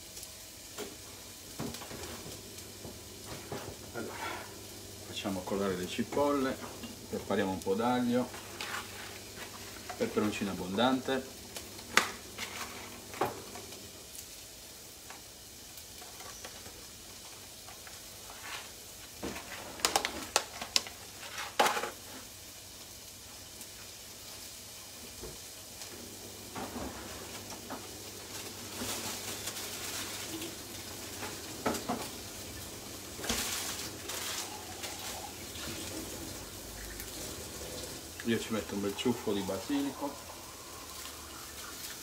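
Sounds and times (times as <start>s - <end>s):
onions sizzling in oil: 0.0s - 42.0s.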